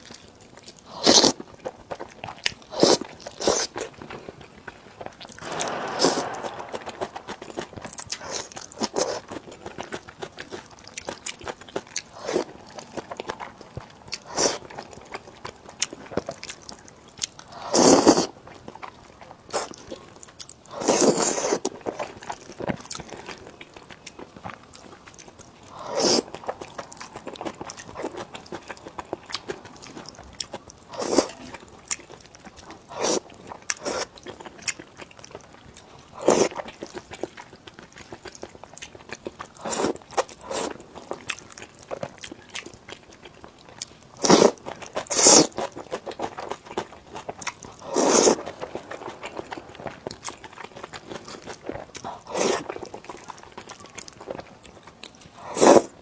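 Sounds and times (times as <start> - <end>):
chewing with small crackles: 0.0 - 56.0.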